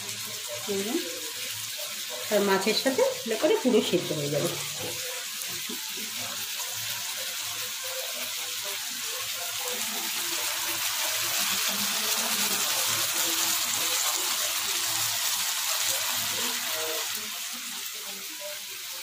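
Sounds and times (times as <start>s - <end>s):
potatoes sizzling in oil: 0.0s - 19.0s.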